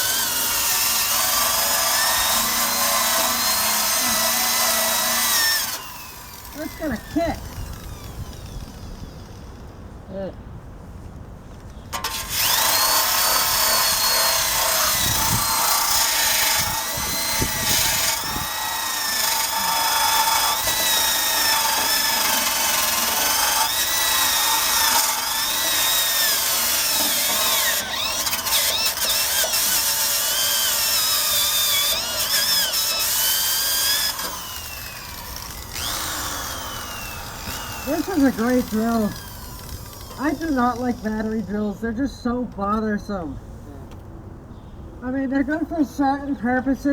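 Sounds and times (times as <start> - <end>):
drill wire brush scraping steel: 0.0 - 9.8, 11.9 - 42.0.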